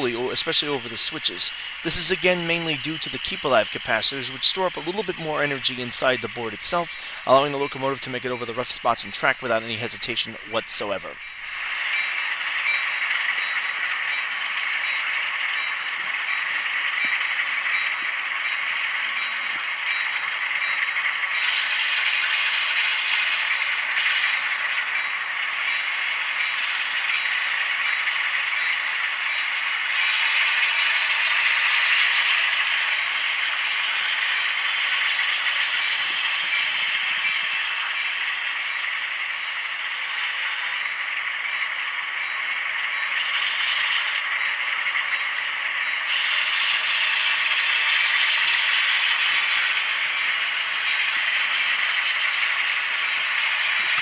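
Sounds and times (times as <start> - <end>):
rattling diesel engine sound: 0.0 - 54.0.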